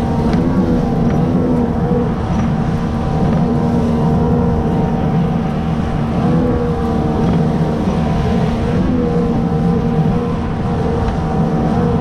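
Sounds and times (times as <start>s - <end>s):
outboard motor humming: 0.0s - 12.0s
rushing air and water: 0.0s - 12.0s.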